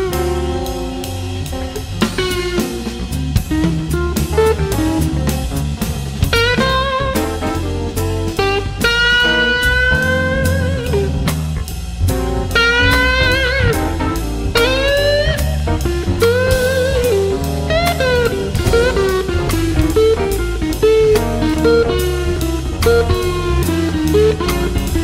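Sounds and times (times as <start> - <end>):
blues lead guitar: 0.0 - 25.0
drum beat: 0.0 - 25.0.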